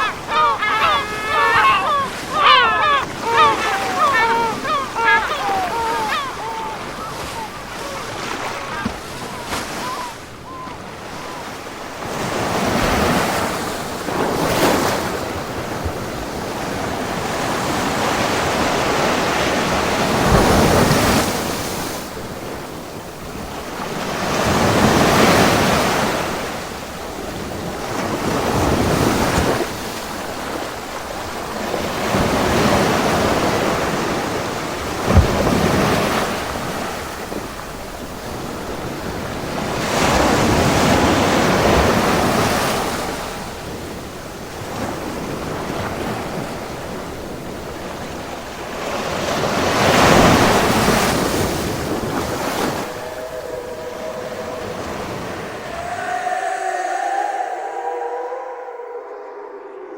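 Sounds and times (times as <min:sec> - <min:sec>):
waves breaking and washing in: 0:00.0 - 0:59.9.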